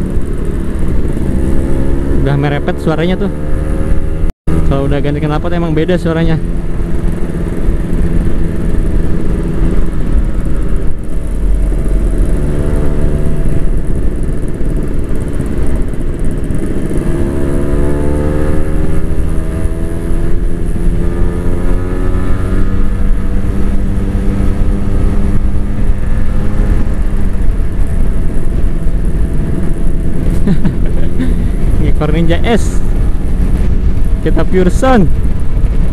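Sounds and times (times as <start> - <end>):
motorcycle engines accelerating: 0.0 - 35.9.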